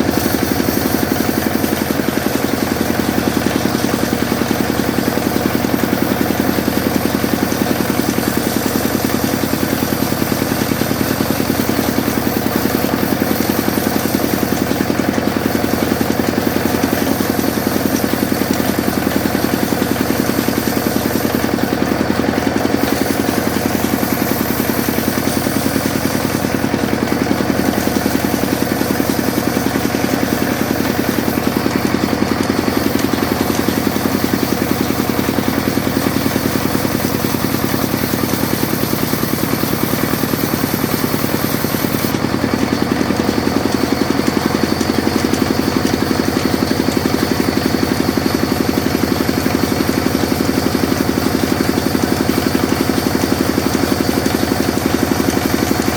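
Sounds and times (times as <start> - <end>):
sawmill machine humming: 0.0 - 55.9.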